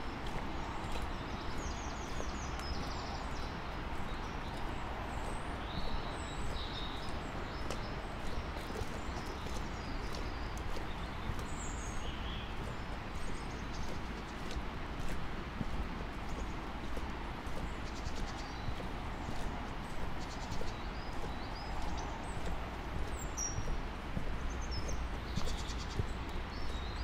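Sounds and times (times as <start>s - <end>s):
footsteps on road: 0.0s - 27.0s
small birds chirping: 0.0s - 27.0s.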